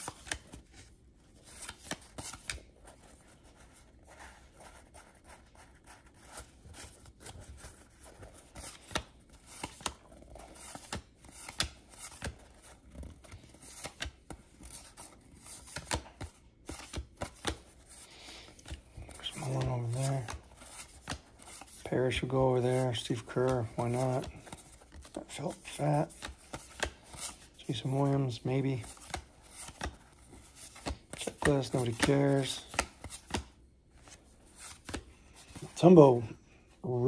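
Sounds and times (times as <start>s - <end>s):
cards being handled and sorted: 0.0s - 37.0s.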